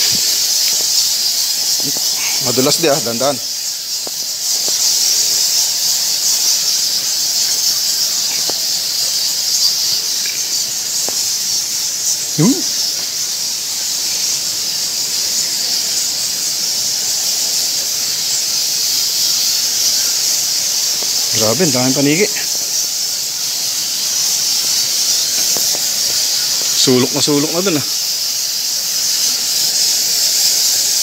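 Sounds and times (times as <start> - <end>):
bats squeaking: 0.0 - 31.0.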